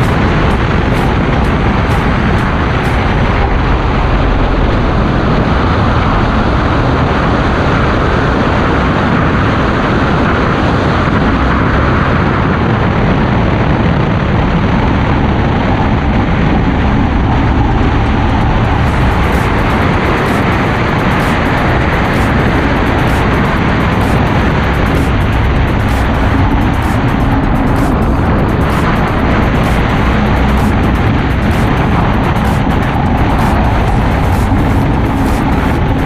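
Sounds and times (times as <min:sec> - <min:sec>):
roller coaster rumbling on track: 0:00.0 - 0:36.0
wind rushing: 0:00.0 - 0:36.0.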